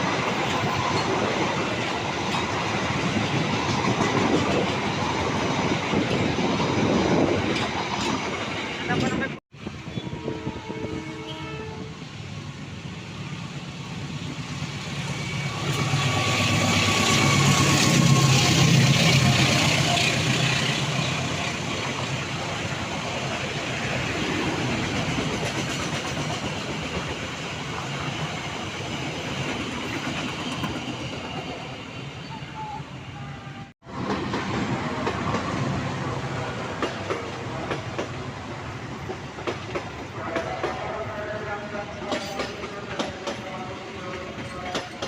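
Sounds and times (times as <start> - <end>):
train passing close by: 0.0 - 45.0.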